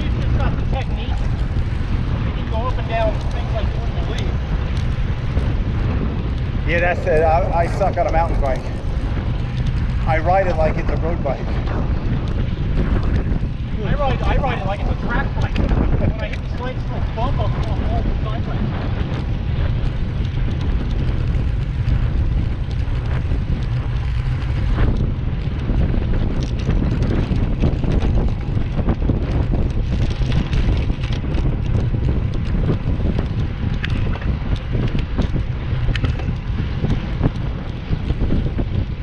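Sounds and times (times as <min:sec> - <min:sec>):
bicycle clicks and knocks: 0:00.0 - 0:39.0
wind buffeting microphone: 0:00.0 - 0:39.0.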